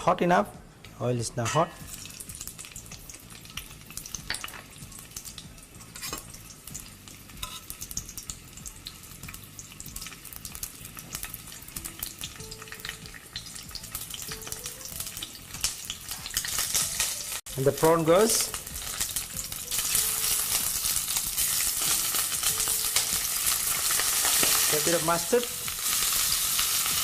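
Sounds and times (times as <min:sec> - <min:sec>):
onion sizzling in hot oil: 0:01.4 - 0:27.0.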